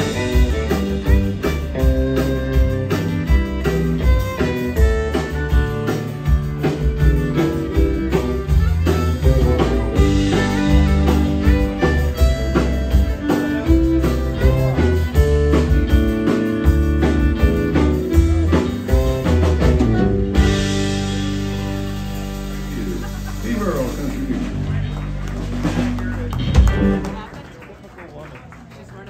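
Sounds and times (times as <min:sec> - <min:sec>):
fiddle: 0:00.0 - 0:27.3
acoustic and electric guitars: 0:00.0 - 0:27.5
bass: 0:00.0 - 0:28.2
drums: 0:00.0 - 0:29.0.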